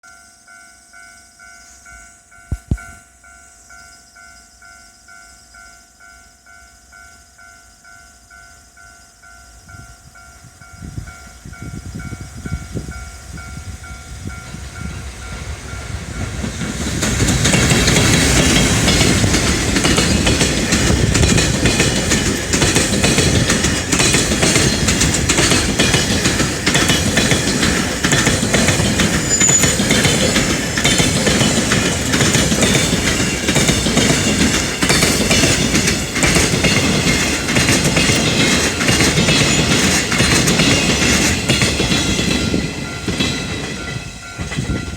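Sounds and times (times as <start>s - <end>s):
freight train passing: 0.4s - 44.9s.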